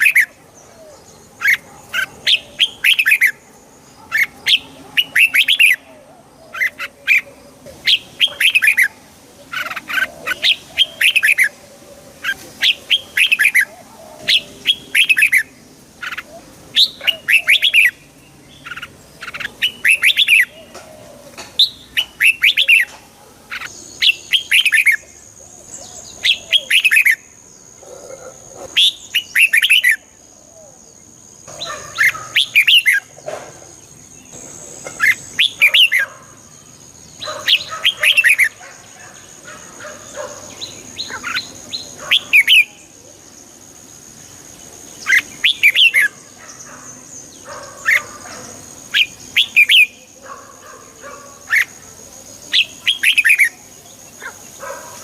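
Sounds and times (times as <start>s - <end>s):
bird singing chirping phrases: 0.0s - 55.0s.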